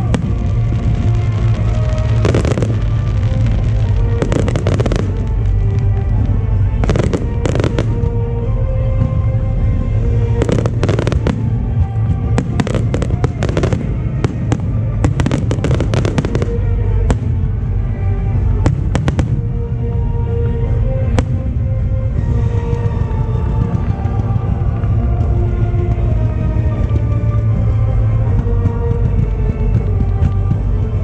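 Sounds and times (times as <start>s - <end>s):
fireworks bursting and crackling: 0.0s - 9.5s, 10.1s - 19.9s, 21.0s - 27.6s, 28.2s - 31.0s
music playing: 0.0s - 31.0s.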